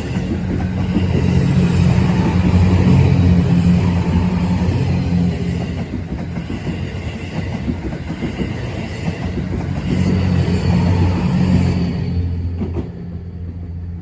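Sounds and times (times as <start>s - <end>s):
train wheels clattering: 0.0s - 13.6s.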